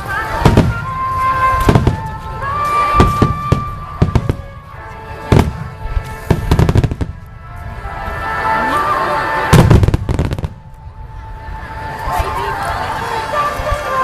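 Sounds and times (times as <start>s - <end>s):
music playing: 0.0s - 14.0s.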